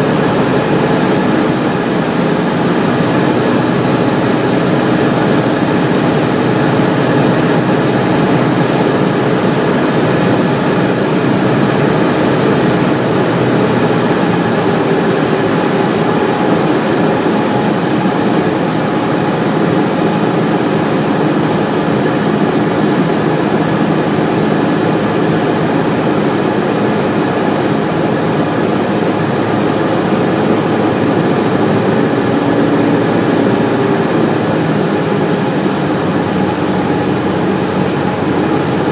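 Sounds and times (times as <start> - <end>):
light aircraft engine drone: 0.0 - 38.9.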